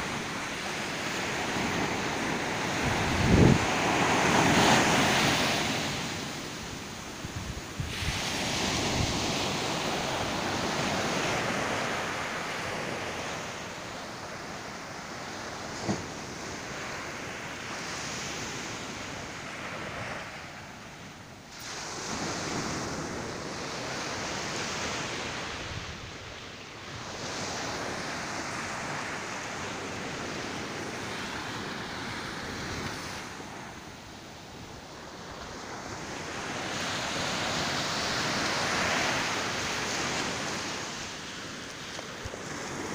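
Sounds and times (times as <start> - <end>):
ocean surf breaking on beach: 0.0 - 42.9.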